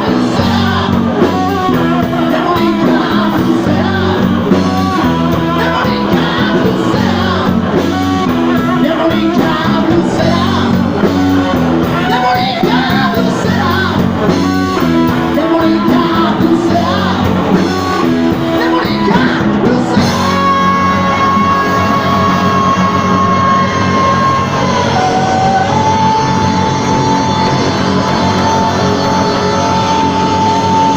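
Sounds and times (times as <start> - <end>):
blues-rock band playing: 0.0 - 30.9
electric guitar: 0.0 - 30.9
person singing: 0.0 - 30.9.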